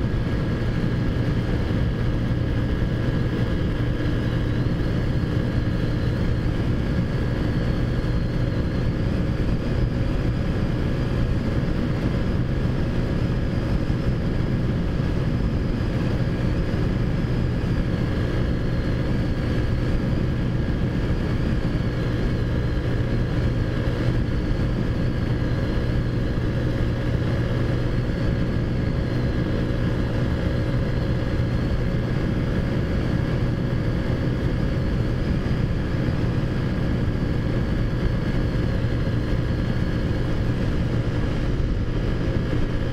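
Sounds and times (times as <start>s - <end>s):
minibike engine running steadily: 0.0s - 42.9s.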